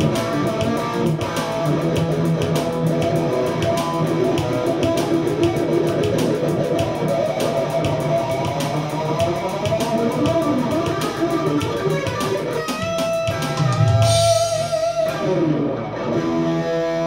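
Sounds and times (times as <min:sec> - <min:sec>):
electric guitar riffing: 0:00.0 - 0:17.0.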